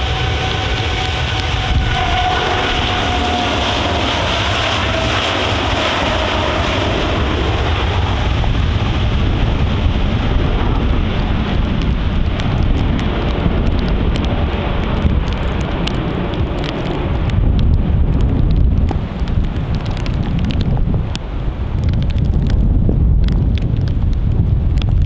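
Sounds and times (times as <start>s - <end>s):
jet engine whine: 0.0s - 20.1s
jet engine roar: 0.0s - 21.7s.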